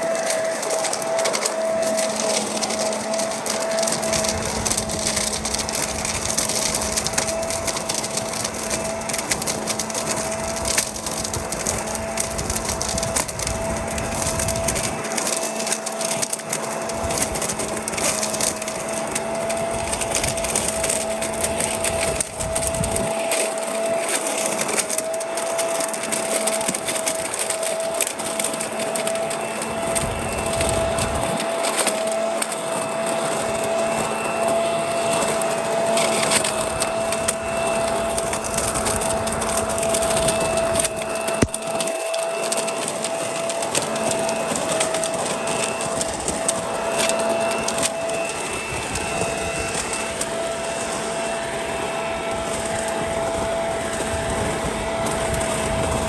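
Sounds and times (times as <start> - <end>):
leaf vacuum whining: 0.0 - 56.0
leaves crackling being shredded: 0.0 - 56.0.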